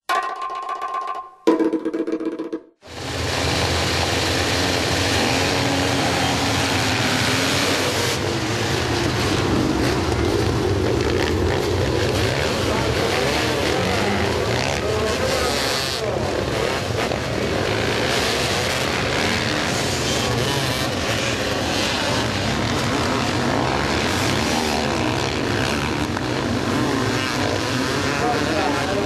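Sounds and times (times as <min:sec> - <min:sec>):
motorcycle engines racing: 0:02.9 - 0:29.0.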